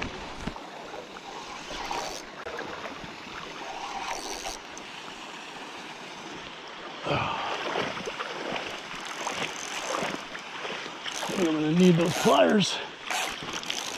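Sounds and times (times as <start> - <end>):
shallow river water lapping: 0.0 - 13.9
water splashing: 0.0 - 13.9.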